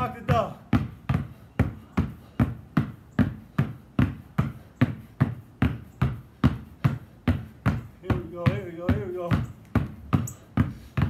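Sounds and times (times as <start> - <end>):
basketballs bouncing on concrete: 0.0 - 11.0.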